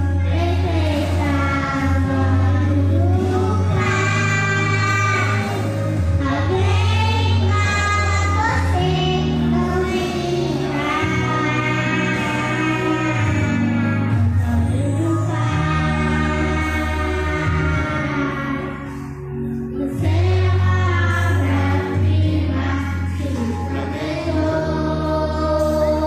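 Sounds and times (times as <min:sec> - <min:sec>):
girls singing worship song: 0:00.0 - 0:26.0
instrumental accompaniment: 0:00.0 - 0:26.0.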